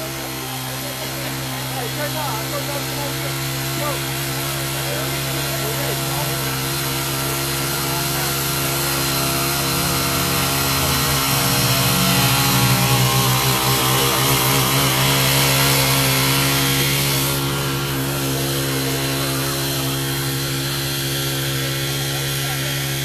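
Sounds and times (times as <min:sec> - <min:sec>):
tiller engine running: 0:00.0 - 0:23.0.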